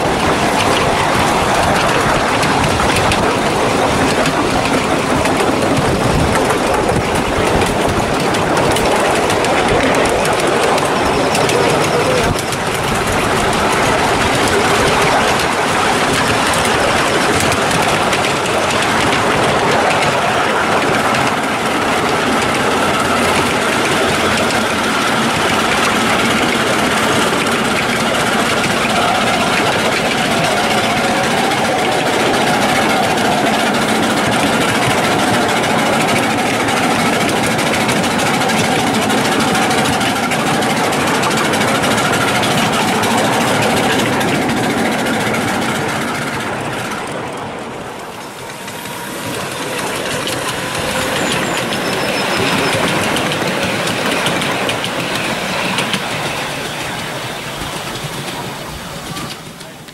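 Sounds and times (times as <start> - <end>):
locomotive working: 0.0 - 59.9
train wheels running on rails: 0.0 - 59.9.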